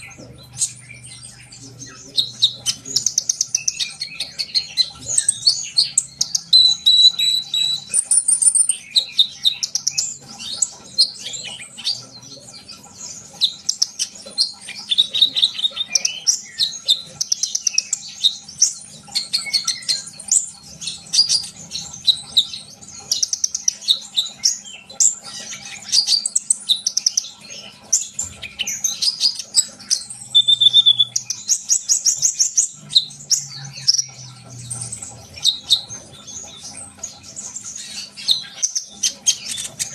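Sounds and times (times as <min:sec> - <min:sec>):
sunbird chirping and trilling: 0:00.0 - 0:39.9.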